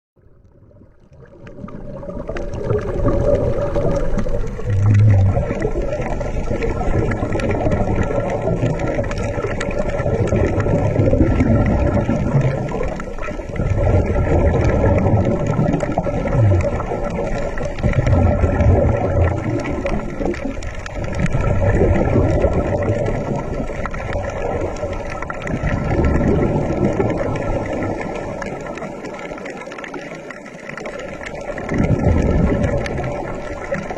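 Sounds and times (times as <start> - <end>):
underwater rumbling water: 0.2 - 33.9.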